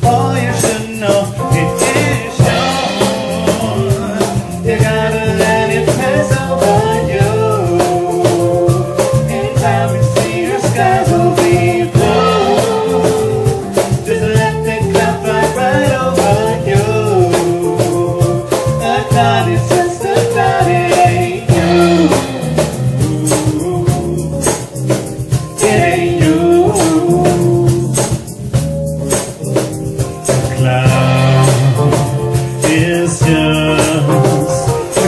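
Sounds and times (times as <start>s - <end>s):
man singing: 0.0s - 24.7s, 25.5s - 28.3s, 30.3s - 35.0s
bass guitar: 0.0s - 35.0s
electric guitar: 0.0s - 35.0s
percussion beat: 0.0s - 35.0s.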